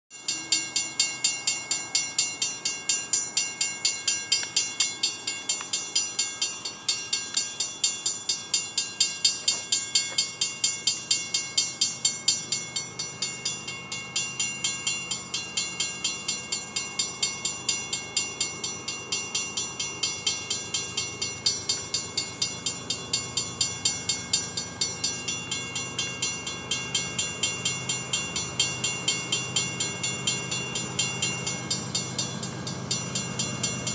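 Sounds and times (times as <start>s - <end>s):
crossing warning bell ringing: 0.1s - 33.9s
freight train diesel rumble: 0.1s - 33.9s.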